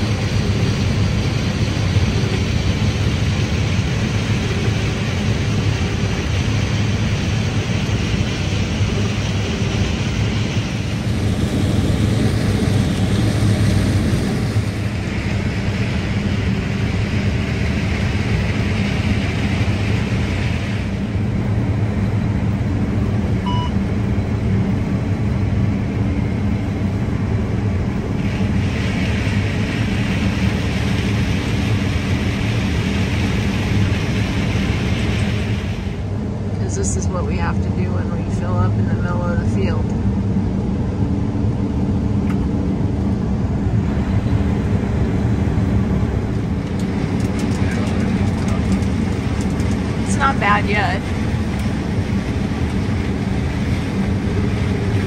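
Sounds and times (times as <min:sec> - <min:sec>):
deep engine hum: 0:00.0 - 0:55.0.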